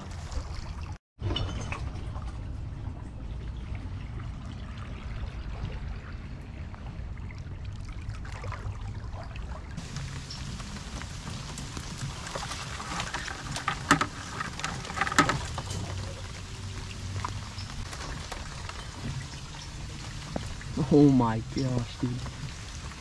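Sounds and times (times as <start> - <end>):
water dripping and lapping: 0.0 - 23.0
low steady rumble: 1.2 - 23.0.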